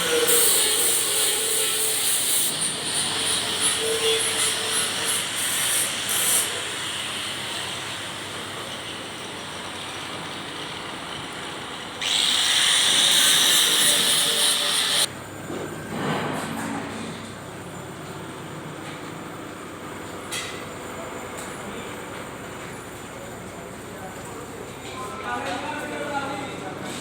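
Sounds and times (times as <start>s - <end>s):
hissing workshop noise: 0.0s - 27.0s.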